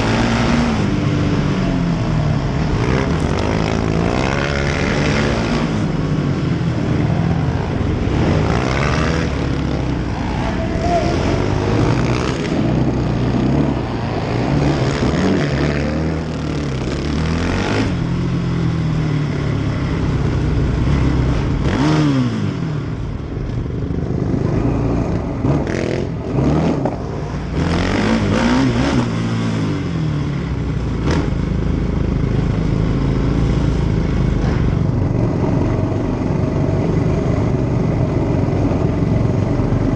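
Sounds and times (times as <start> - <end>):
quad engines revving: 0.0 - 39.9.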